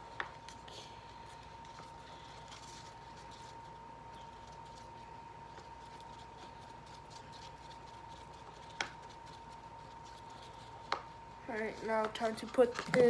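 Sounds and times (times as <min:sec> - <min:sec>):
thin electrical hum: 0:00.0 - 0:13.0.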